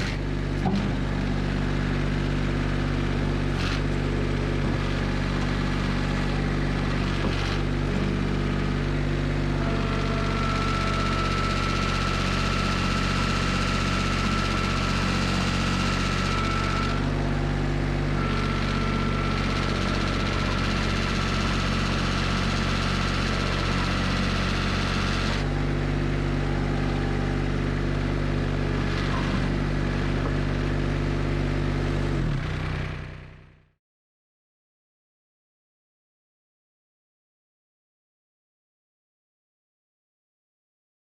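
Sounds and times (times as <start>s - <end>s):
diesel engine running: 0.0s - 33.8s.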